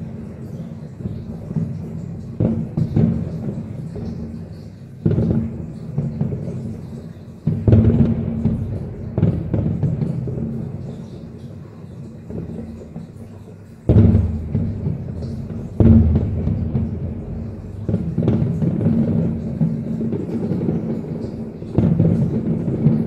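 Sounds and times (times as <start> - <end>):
fireworks booming: 0.0 - 23.0
fireworks crackling: 0.0 - 23.0.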